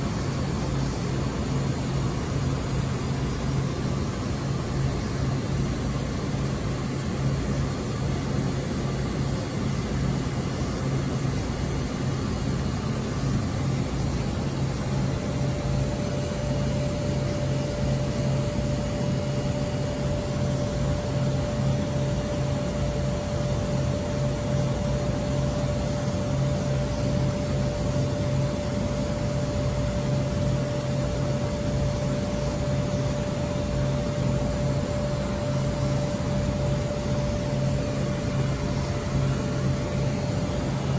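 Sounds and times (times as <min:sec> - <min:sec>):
machine hum: 0:06.2 - 0:40.9.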